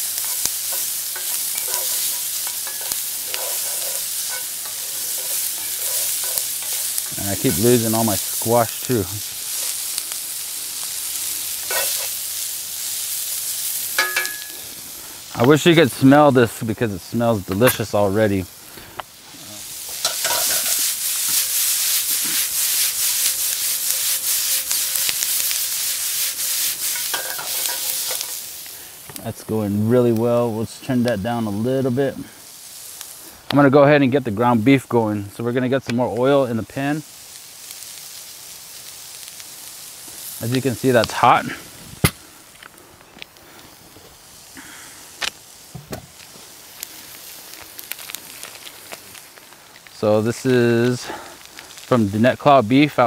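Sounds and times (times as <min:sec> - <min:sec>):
vegetables sizzling in a skillet: 0:00.0 - 0:53.0.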